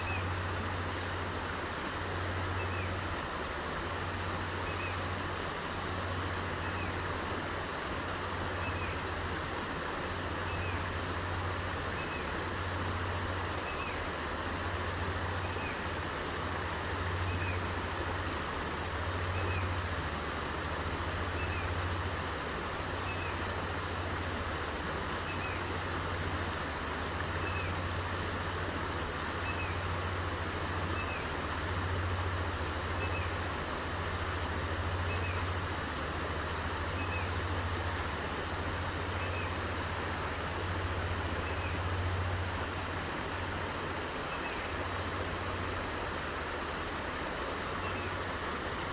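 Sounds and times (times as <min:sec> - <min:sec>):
stream water over rocks: 0:00.0 - 0:48.9.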